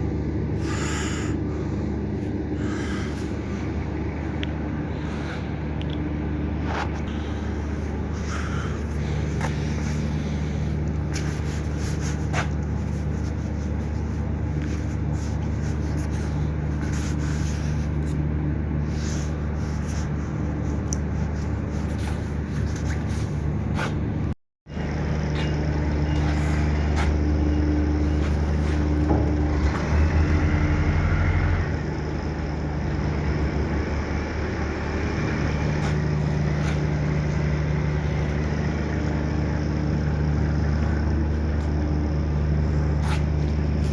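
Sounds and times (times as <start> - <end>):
road noise: 0.0 - 43.9
vehicle engine hum: 0.0 - 43.9.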